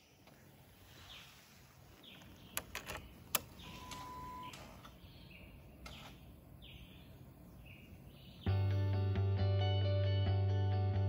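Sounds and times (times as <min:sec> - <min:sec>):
birds calling faintly: 0:00.0 - 0:09.0.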